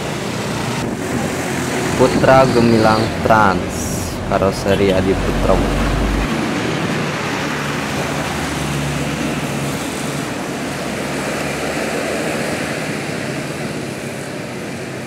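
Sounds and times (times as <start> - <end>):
diesel bus engine drone: 0.0 - 15.0
road noise: 0.0 - 15.0.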